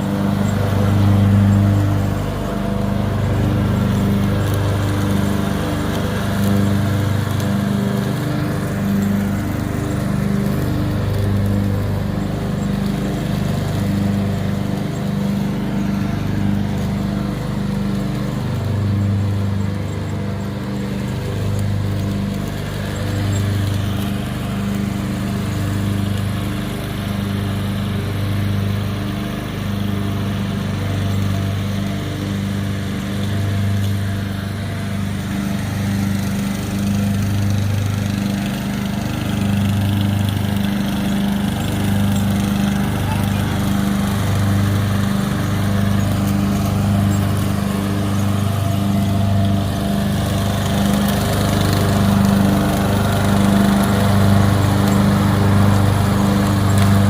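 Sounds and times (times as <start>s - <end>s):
riding lawn mower engine: 0.0s - 57.0s.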